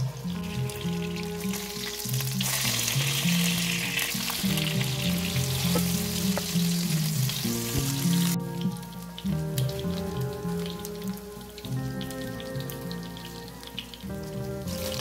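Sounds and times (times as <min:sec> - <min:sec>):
background music: 0:00.0 - 0:15.0
fish sizzling in hot oil: 0:00.0 - 0:15.0.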